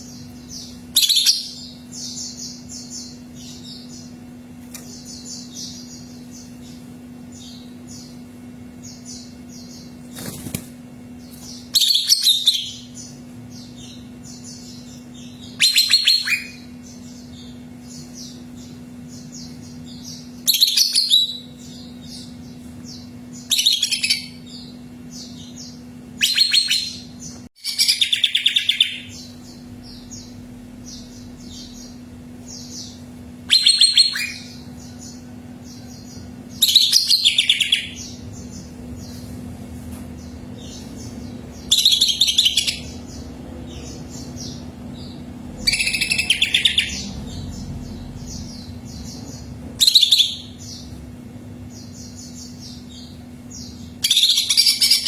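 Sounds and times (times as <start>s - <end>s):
bird chirping softly: 0.0s - 55.0s
faint steady hum: 0.0s - 55.0s
loud rapid birdsong phrases: 0.0s - 55.0s.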